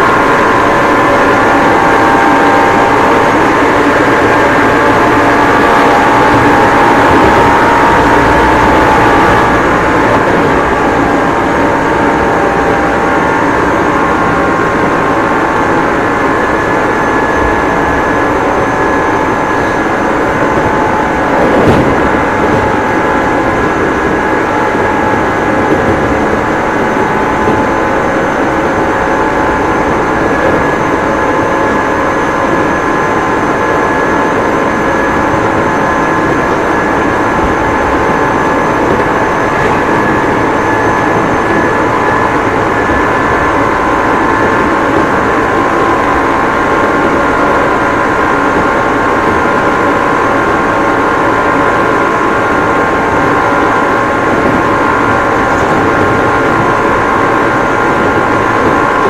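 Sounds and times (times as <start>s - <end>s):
train running gear whining: 0.0s - 59.0s
train wheels rumbling on rail: 0.0s - 59.0s.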